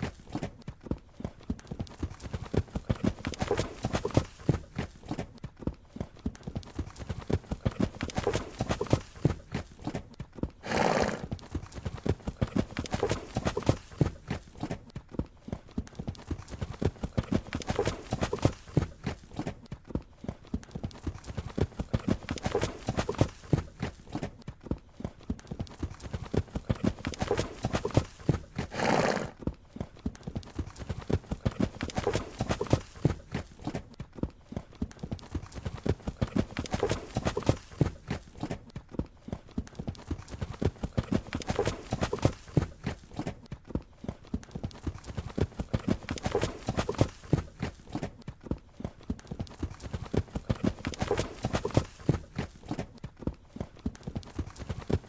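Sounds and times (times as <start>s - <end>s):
horse hooves clip-clopping: 0.0s - 55.0s.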